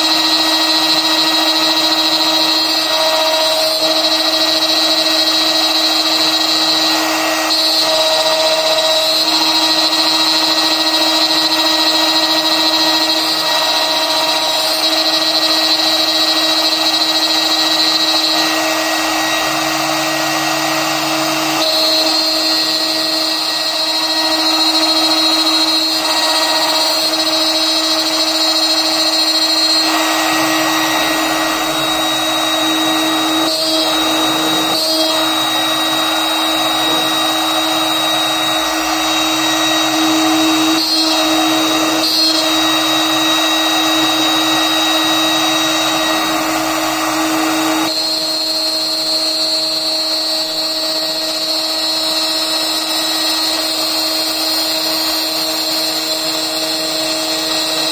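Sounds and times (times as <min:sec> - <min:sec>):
router drilling into plastic: 0:00.0 - 0:57.9
spindle whine: 0:00.0 - 0:57.9.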